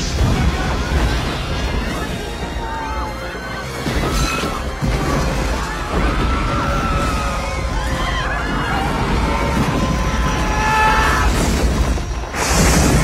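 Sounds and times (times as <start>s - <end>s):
people screaming and shouting: 0.0s - 12.0s
low rumble of destruction: 0.0s - 13.0s.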